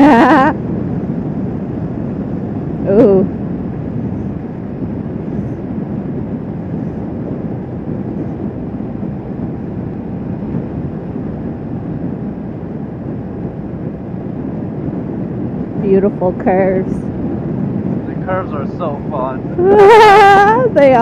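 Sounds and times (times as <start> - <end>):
wind rush on microphone: 0.0 - 21.0.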